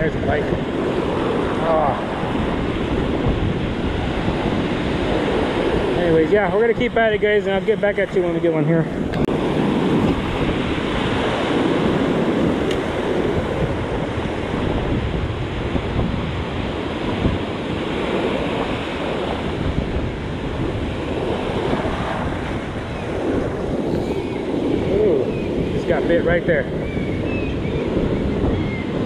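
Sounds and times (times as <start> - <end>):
surf breaking and washing: 0.0 - 29.0
wind buffeting microphone: 0.0 - 29.0.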